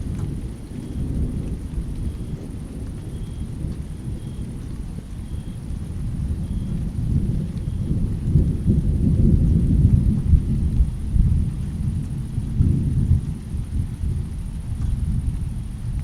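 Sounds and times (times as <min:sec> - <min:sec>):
rolling thunder rumble: 0:00.0 - 0:16.0.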